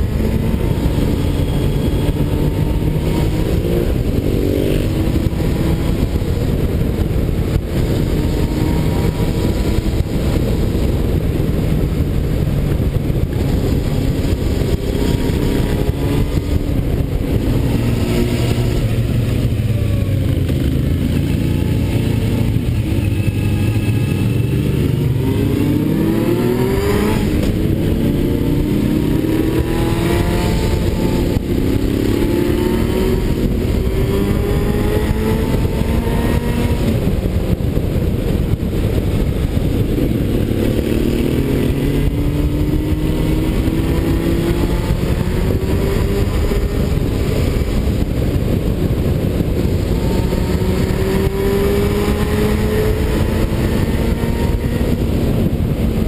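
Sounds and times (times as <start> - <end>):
motorcycle engine revving: 0.0 - 56.0
wind on microphone: 0.0 - 56.0.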